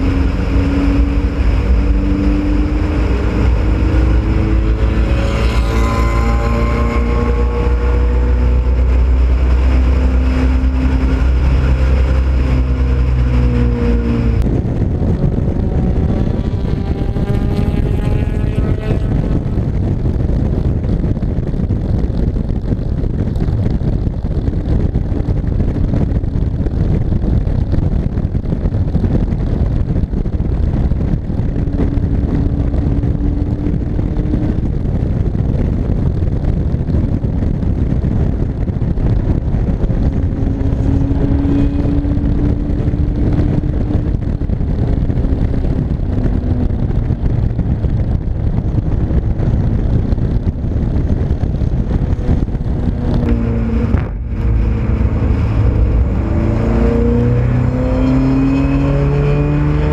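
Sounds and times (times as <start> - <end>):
race car engine at high revs: 0.0 - 59.9
wind rushing over microphone: 0.0 - 59.9.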